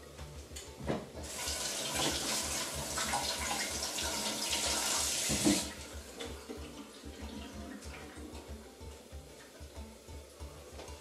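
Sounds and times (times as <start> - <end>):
tap water running: 0.6 - 9.7.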